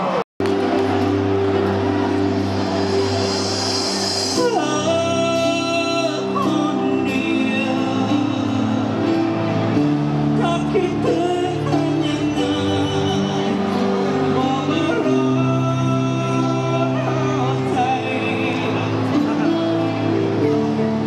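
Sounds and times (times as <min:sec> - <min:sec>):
live band performing: 0:00.0 - 0:21.0
man singing: 0:04.1 - 0:21.0.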